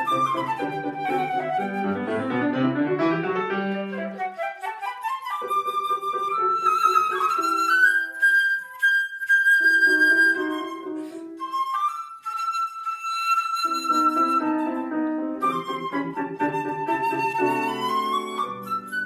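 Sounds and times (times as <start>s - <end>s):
piano chords: 0.0s - 11.9s, 13.6s - 19.0s
flute holding long notes: 0.0s - 19.0s.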